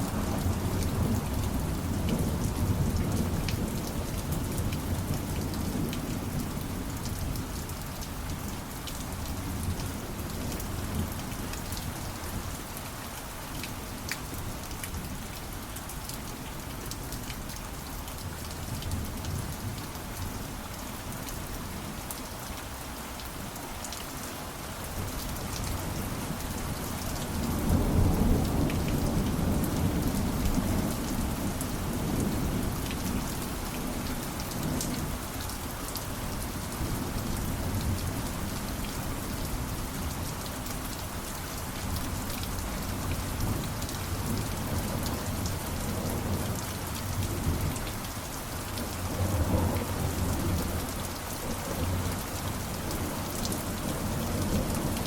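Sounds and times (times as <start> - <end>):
steady rain with drop ticks: 0.0 - 55.0.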